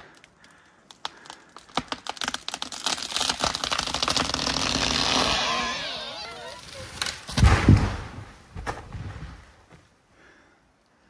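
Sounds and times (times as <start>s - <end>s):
tree cracking and crackling: 0.0s - 9.4s.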